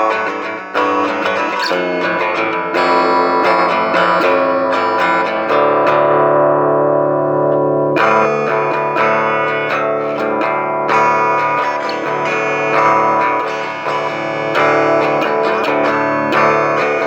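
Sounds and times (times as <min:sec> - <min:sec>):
guitar chord ringing: 0:00.0 - 0:17.0
plucked guitar notes: 0:00.0 - 0:17.0.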